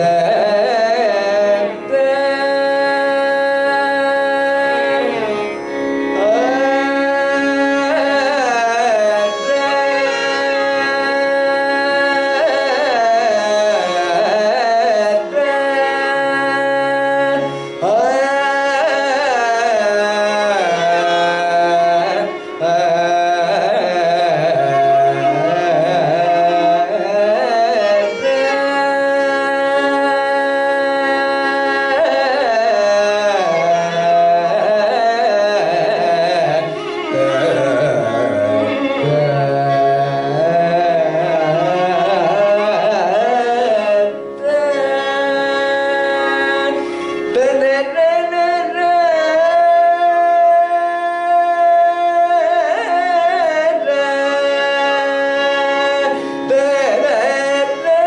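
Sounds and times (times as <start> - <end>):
person singing ornamented phrases: 6.2 - 58.0.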